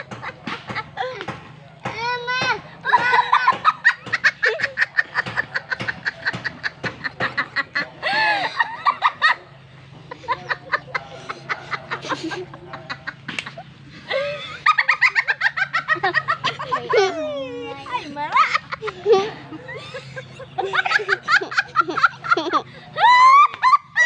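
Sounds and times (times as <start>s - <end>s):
woman laughing hard: 2.8s - 9.4s, 10.1s - 24.0s.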